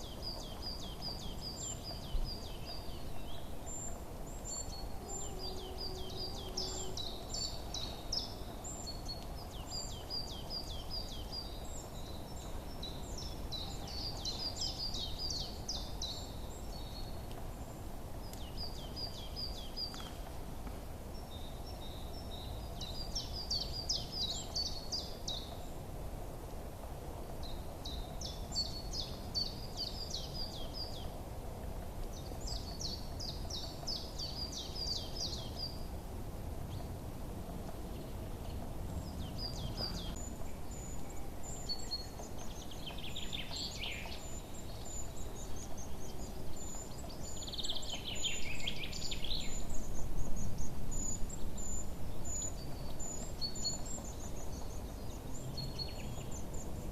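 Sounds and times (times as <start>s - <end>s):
low background noise: 0.0s - 56.9s
songbirds chirping: 0.0s - 56.9s.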